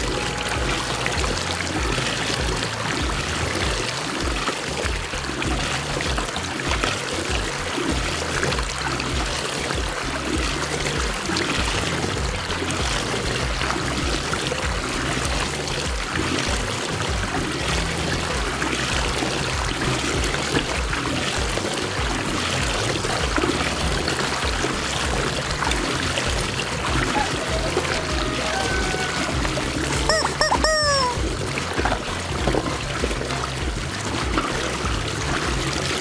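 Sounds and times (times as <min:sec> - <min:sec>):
background music with bass: 0:00.0 - 0:36.0
water rushing down drain: 0:00.0 - 0:36.0.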